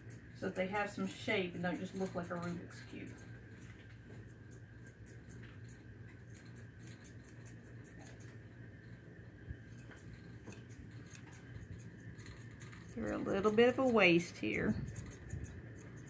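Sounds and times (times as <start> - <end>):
shears snipping hair: 0.0 - 16.0.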